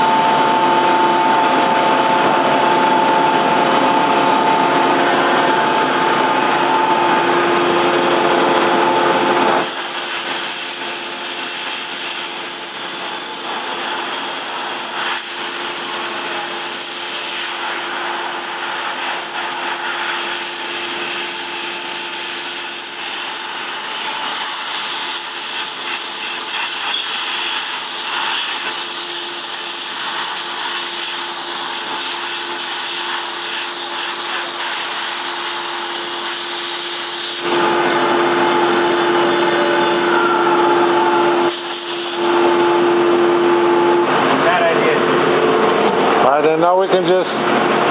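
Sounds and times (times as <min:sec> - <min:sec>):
lathe machine hum: 0:00.0 - 0:47.9
loud machine whine: 0:00.0 - 0:47.9.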